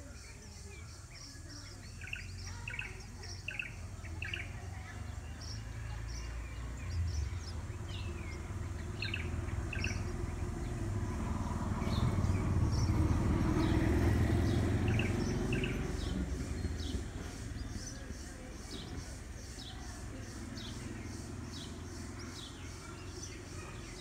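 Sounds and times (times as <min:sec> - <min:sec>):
birds chirping high: 0:00.0 - 0:24.0.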